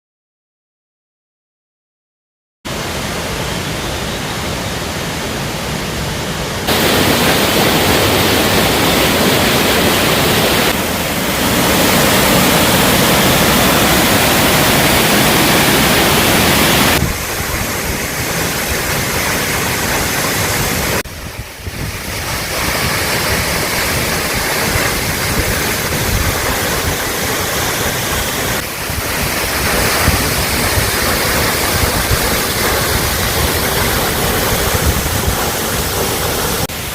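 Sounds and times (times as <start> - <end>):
waterfall rushing: 2.7 - 36.9.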